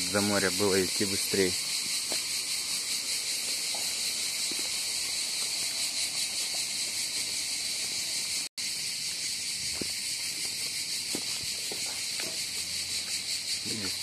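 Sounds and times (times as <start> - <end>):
insects chirring: 0.0 - 14.0
footsteps on pavement: 1.8 - 8.2, 9.0 - 14.0.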